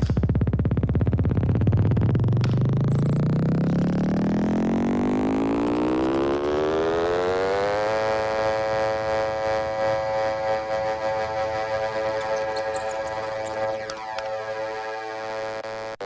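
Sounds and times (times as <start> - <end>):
buzzy synthesizer note rising: 0.2 - 16.0.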